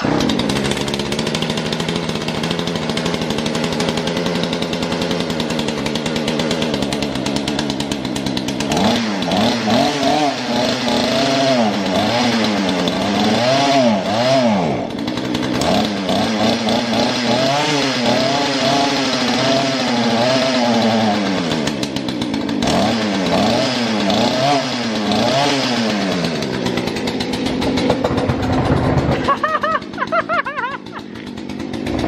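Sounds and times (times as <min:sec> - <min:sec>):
chainsaw engine revving: 0:00.0 - 0:32.0.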